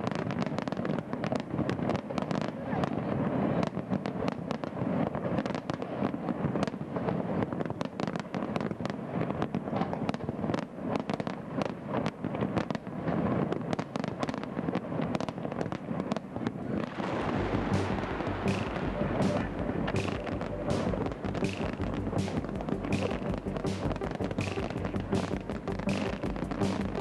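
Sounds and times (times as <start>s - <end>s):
fireworks crackling and banging: 0.0s - 27.0s.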